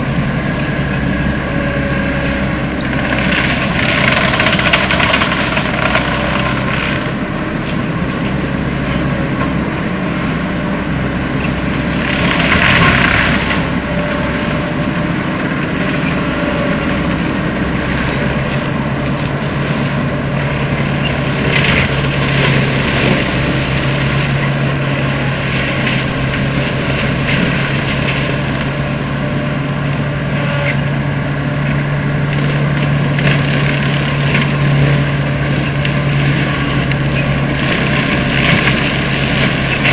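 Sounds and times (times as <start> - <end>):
diesel engine and mulcher running: 0.0 - 39.9.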